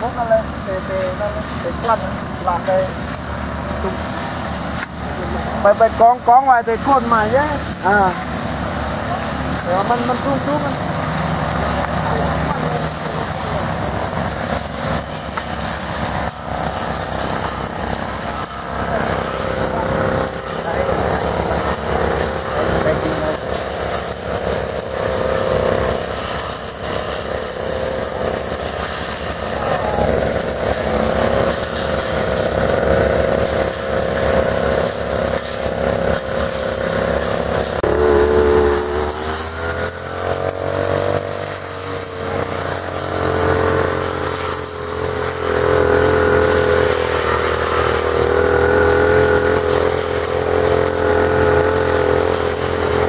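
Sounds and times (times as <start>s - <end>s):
brush cutter engines running: 0.0s - 53.0s.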